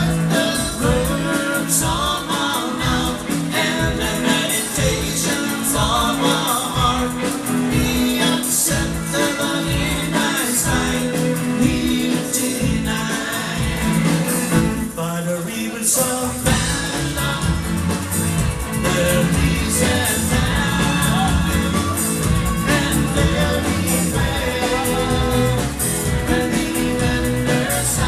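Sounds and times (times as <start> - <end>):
drums with cymbals: 0.0 - 15.0, 15.9 - 28.0
bass: 0.0 - 28.0
person singing: 0.0 - 28.0.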